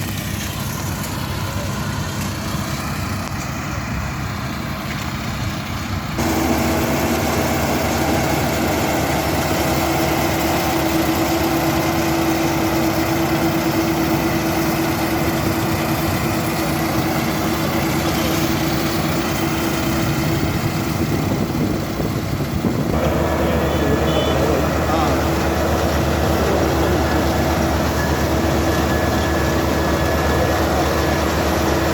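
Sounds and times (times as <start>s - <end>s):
combine harvester running: 0.0s - 31.9s.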